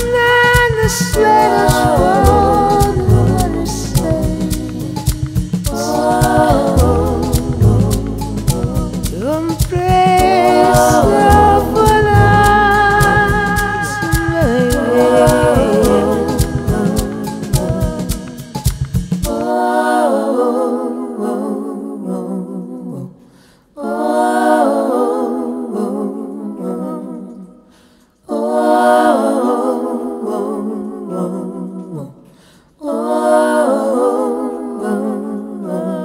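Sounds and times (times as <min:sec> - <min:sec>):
wordless vocal melody: 0:00.0 - 0:36.0.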